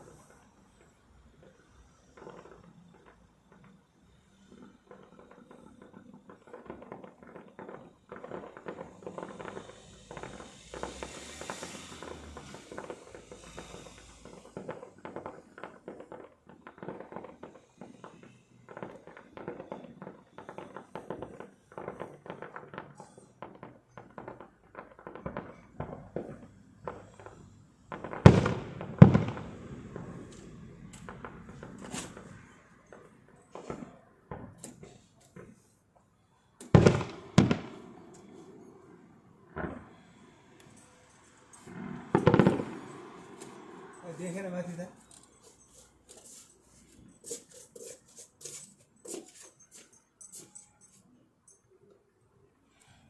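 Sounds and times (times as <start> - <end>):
fireworks hiss: 0.0 - 35.8, 36.6 - 50.6
fireworks crackling: 0.0 - 50.6.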